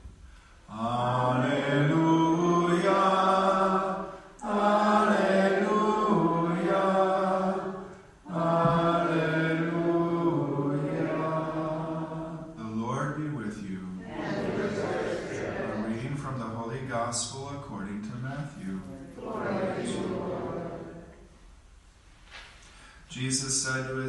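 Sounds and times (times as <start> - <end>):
liturgical chant: 0.7 - 21.3.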